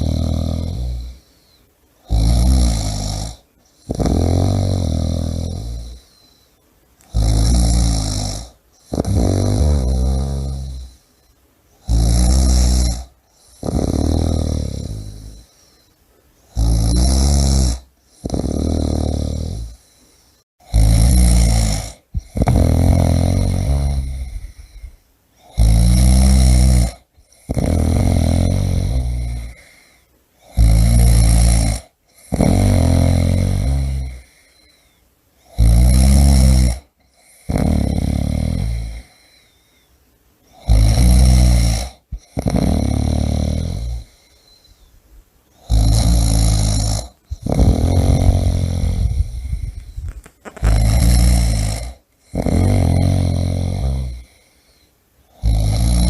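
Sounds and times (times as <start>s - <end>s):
person snoring: 0.0s - 6.4s, 7.0s - 11.1s, 11.8s - 39.6s, 40.5s - 44.8s, 45.6s - 56.0s.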